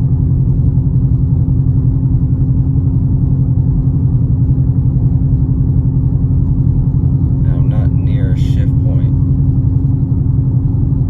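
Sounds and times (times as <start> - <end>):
car engine and exhaust drone: 0.0 - 11.0.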